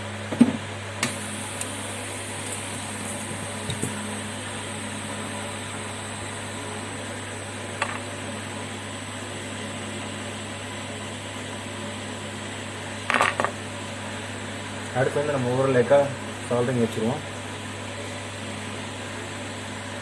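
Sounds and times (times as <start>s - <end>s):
small fan humming: 1.0s - 20.0s.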